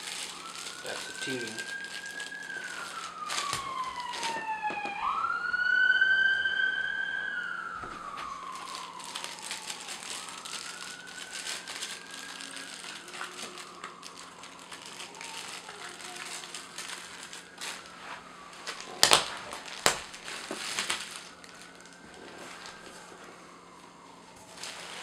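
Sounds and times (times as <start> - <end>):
bubble wrap crinkling: 0.0 - 5.6, 7.3 - 25.0
emergency siren wailing: 0.0 - 25.0.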